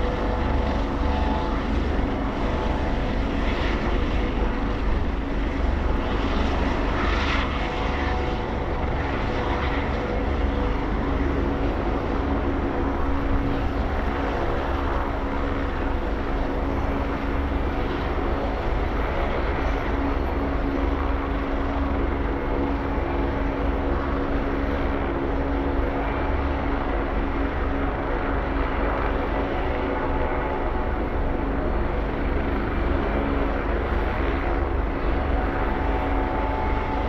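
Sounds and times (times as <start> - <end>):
helicopter engine: 0.0 - 37.0
helicopter rotor beat: 0.0 - 37.0.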